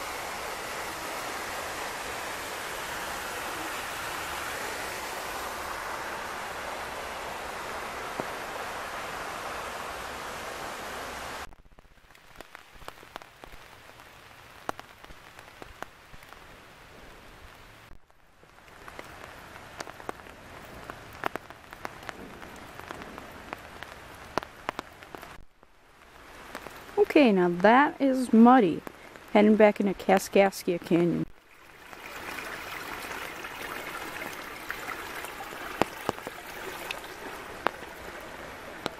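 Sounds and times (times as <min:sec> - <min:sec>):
raindrops ticking on leaves: 0:00.0 - 0:10.2, 0:11.1 - 0:38.9
rain hissing in woodland: 0:00.0 - 0:38.9.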